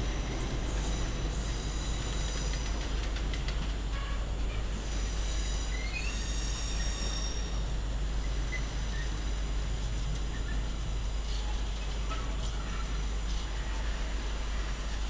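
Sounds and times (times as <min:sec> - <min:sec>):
train rumble: 0:00.0 - 0:15.0
wheels squealing on rails: 0:00.0 - 0:15.0.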